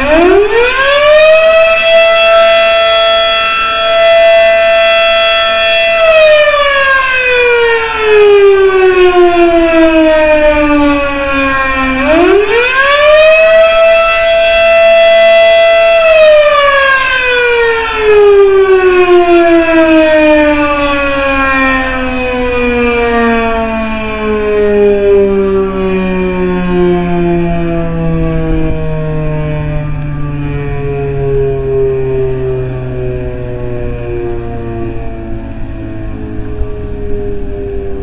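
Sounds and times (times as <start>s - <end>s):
electromechanical siren wailing: 0.0s - 38.0s.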